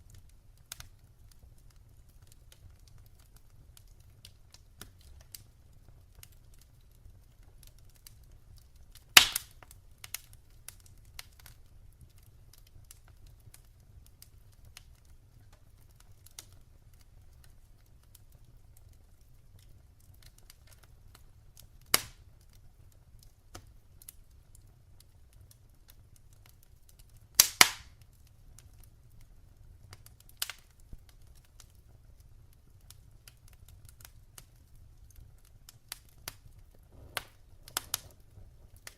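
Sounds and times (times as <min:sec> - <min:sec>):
burning logs popping: 0:00.0 - 0:38.9
wood fire crackling: 0:00.0 - 0:38.9.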